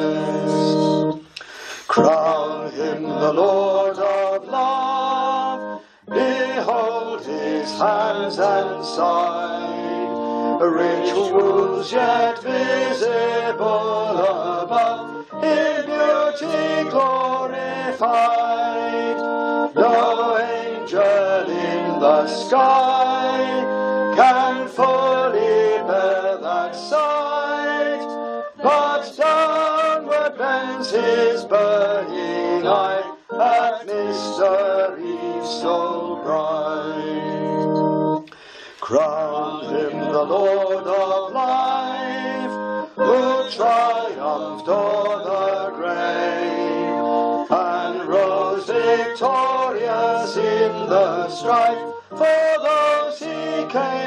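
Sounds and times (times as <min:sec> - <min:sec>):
hymn sung with instruments: 0:00.0 - 0:54.0.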